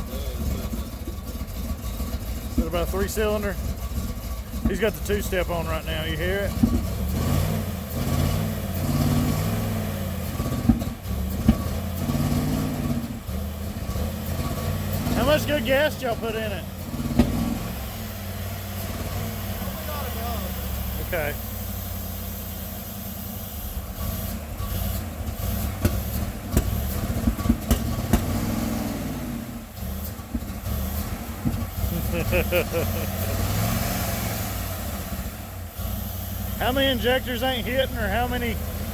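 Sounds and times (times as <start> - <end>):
engine pops: 0.0 - 19.7, 23.6 - 38.9
car engine running roughly: 0.0 - 38.9.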